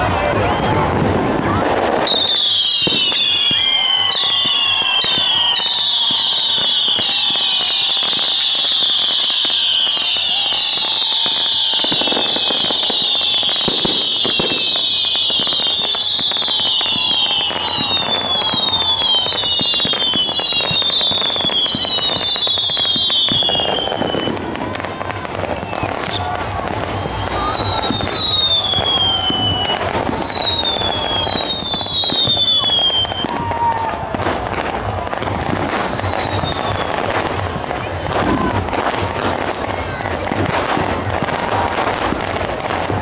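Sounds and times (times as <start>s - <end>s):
firework pops and crackles: 0.0s - 43.0s
heavy firework bangs: 0.0s - 43.0s
whistling fireworks: 0.0s - 43.0s.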